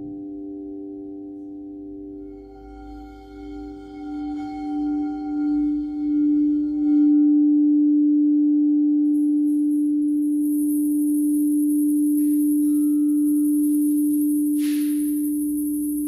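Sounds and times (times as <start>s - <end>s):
crystal singing bowls: 0.0s - 16.0s.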